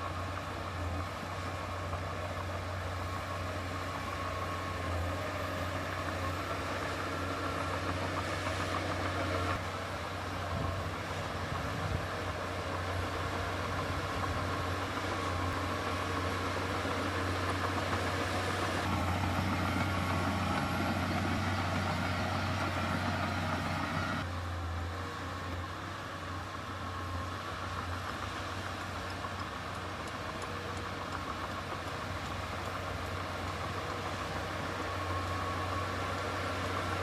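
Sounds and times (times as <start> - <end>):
heavy diesel engine humming: 0.0 - 37.0.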